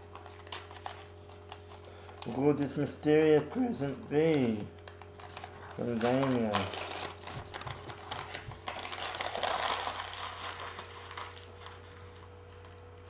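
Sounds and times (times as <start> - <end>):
faint steady hum: 0.0 - 13.0
wrapping paper crinkling and tearing: 0.0 - 13.0.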